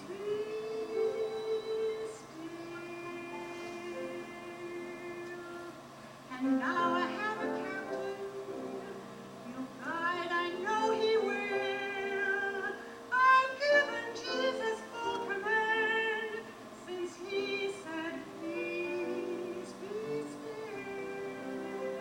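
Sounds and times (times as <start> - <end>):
slow gospel song: 0.0 - 22.0.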